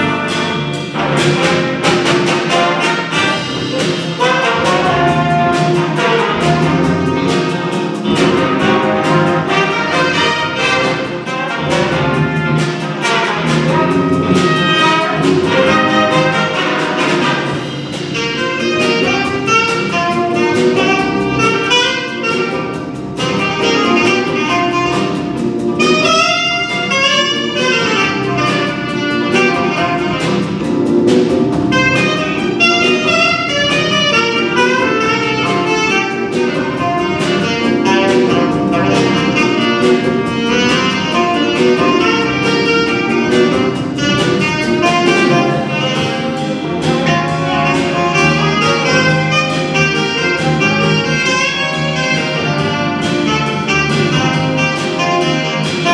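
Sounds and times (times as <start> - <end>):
jazz band playing: 0.0 - 55.9.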